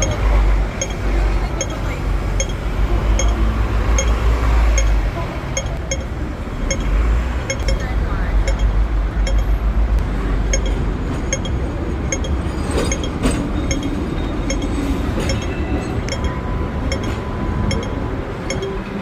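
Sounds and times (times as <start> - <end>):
tram running rumble: 0.0 - 19.0.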